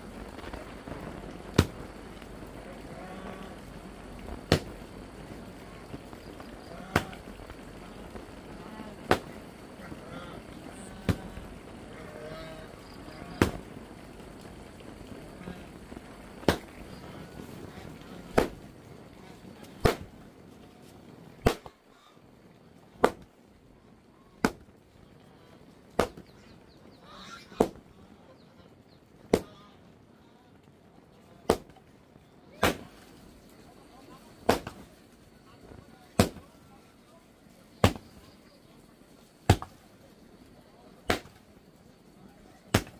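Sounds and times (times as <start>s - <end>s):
faint background noise: 0.0s - 42.9s.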